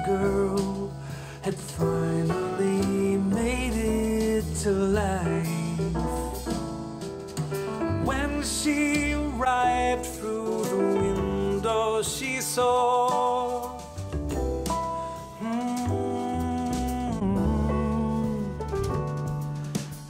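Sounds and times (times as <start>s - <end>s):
pop song over speakers: 0.0s - 6.6s, 8.0s - 20.0s.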